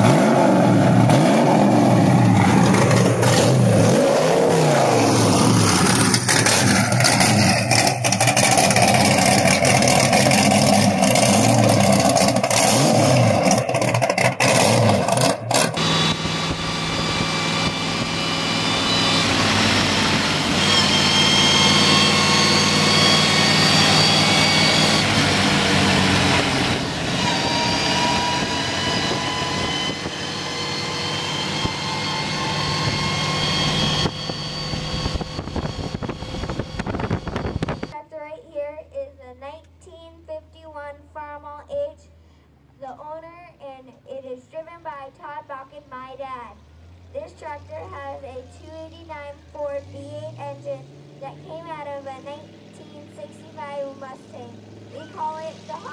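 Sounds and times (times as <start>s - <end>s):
tractor engine revving: 0.0s - 38.0s, 46.6s - 55.9s
tractor engine running steadily: 5.2s - 38.0s, 43.6s - 55.9s.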